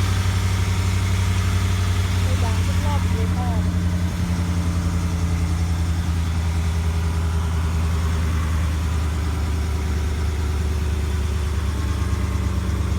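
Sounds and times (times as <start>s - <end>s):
pickup truck engine idling: 0.0s - 12.9s.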